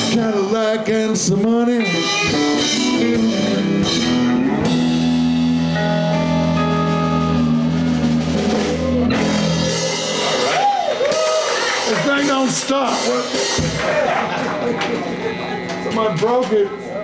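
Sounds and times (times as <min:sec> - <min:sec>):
blues band playing: 0:00.0 - 0:17.0.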